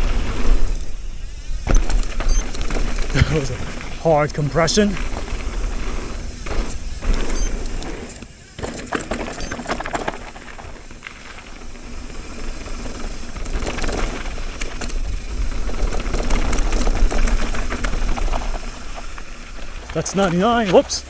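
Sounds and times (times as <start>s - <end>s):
bike clattering over rocks: 0.0s - 21.0s
rushing wind: 0.0s - 21.0s
tyre rumble on dirt: 0.0s - 21.0s.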